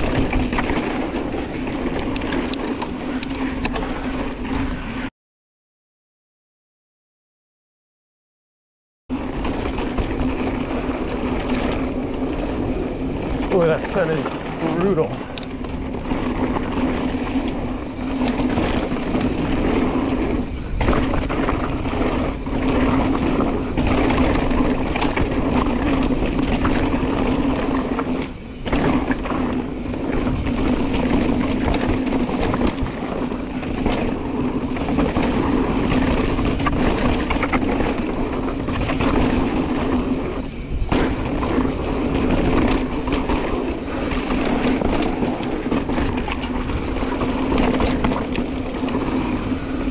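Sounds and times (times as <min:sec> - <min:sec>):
bike rattling: 0:00.0 - 0:05.1, 0:09.1 - 0:49.9
bike tyres rolling on dirt: 0:00.0 - 0:05.1, 0:09.1 - 0:49.9.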